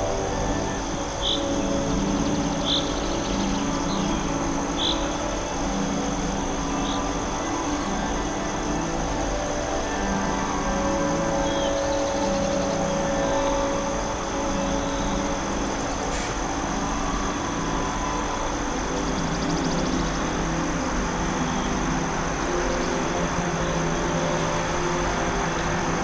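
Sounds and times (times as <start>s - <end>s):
constant high-pitched tone: 0.0s - 26.0s
steady rush of noise: 0.0s - 26.0s.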